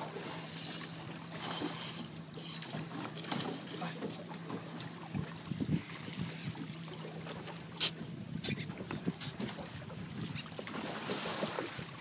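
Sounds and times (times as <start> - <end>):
boat engine hum: 0.0 - 12.0
water splashing: 0.0 - 12.0.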